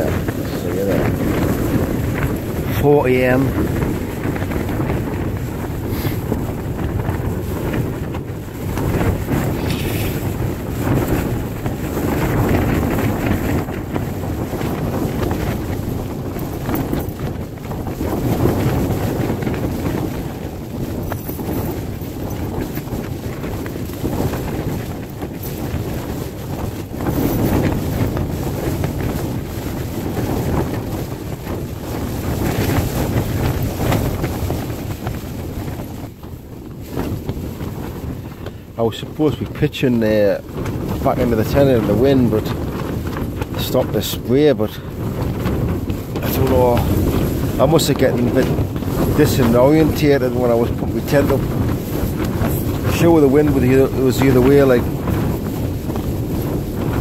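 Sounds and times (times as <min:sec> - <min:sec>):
tent fabric flapping: 0:00.0 - 0:57.0
wind gusting against tent: 0:00.0 - 0:57.0.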